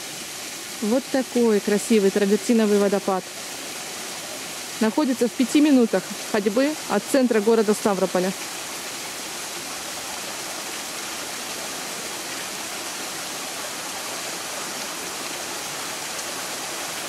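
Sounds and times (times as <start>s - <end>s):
stream and waterfall rushing: 0.0s - 17.0s.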